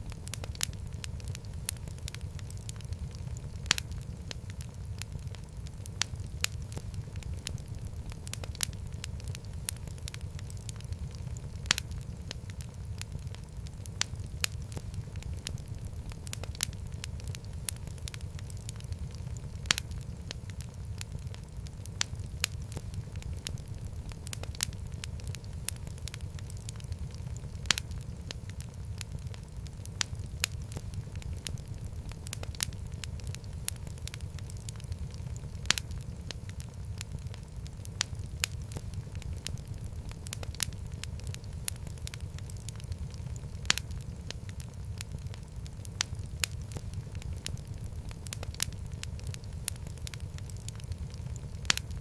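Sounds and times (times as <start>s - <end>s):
sharp fire pops: 0.0s - 52.0s
wood fire crackling: 0.0s - 52.0s.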